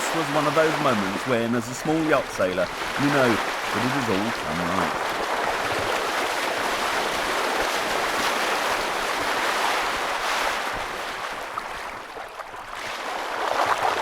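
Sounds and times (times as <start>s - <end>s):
water rushing along a hull: 0.0s - 14.0s.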